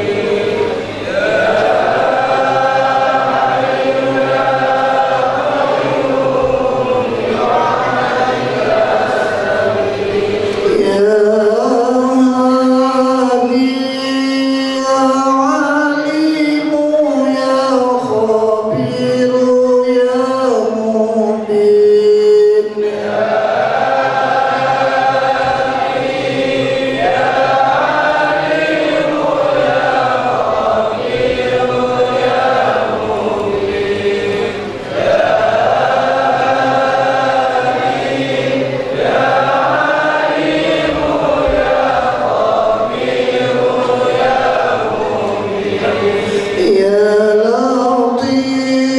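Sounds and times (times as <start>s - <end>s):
men chanting in a group: 0.0s - 48.5s.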